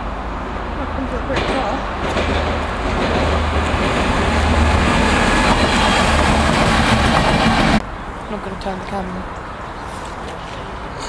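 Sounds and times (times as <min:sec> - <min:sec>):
rail noise: 0:00.0 - 0:11.0
train rumbling past: 0:00.0 - 0:11.0.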